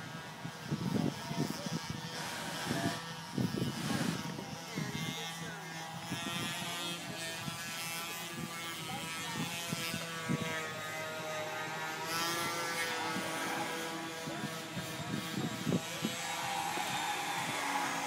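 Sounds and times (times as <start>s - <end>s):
small engine humming: 0.0s - 18.0s.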